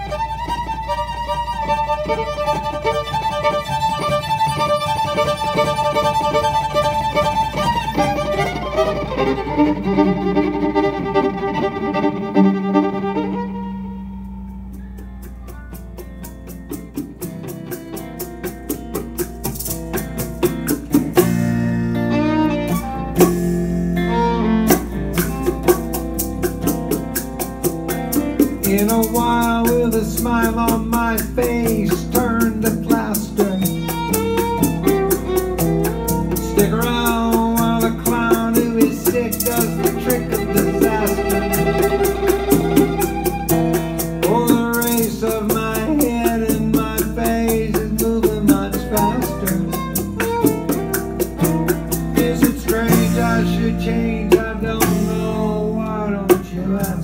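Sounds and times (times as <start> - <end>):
rattling hand percussion: 0.0 - 9.5, 14.1 - 21.8, 22.8 - 57.0
fiddle: 0.0 - 57.0
strummed acoustic guitar: 0.0 - 57.0.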